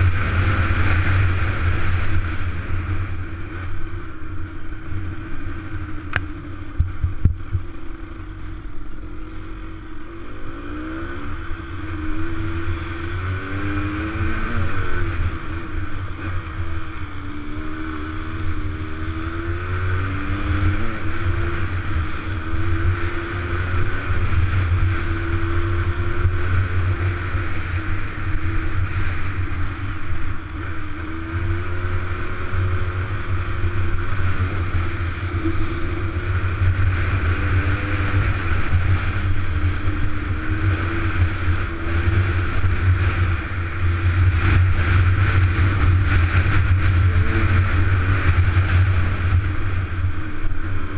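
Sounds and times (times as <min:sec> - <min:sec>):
dirt bike engine revving: 0:00.0 - 0:04.1, 0:09.0 - 0:50.9.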